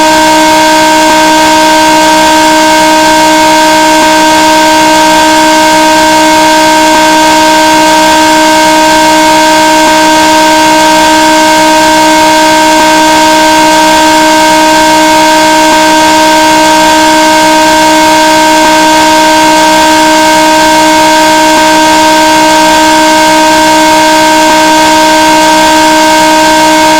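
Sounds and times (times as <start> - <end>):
distorted horn-like buzzing tone: 0.0 - 26.9.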